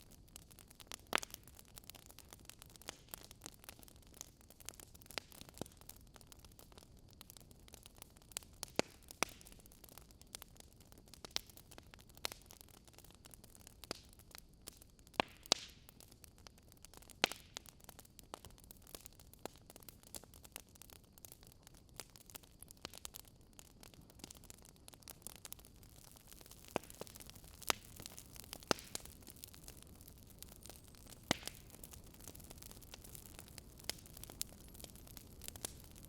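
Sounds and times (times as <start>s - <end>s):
faint steady hiss: 0.0s - 36.0s
wood fire crackling and popping: 0.0s - 36.0s.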